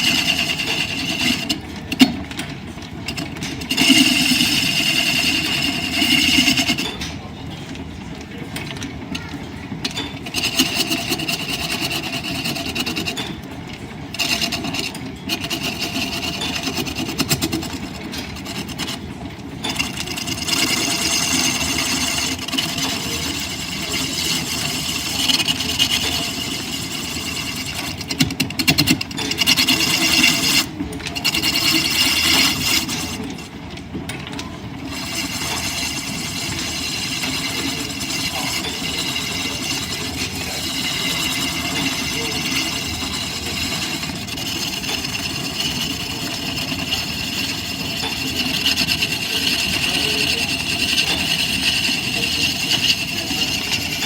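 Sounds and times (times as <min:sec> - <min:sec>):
tool scraping spinning wood: 0:00.0 - 0:54.0
wood lathe running: 0:00.0 - 0:54.0.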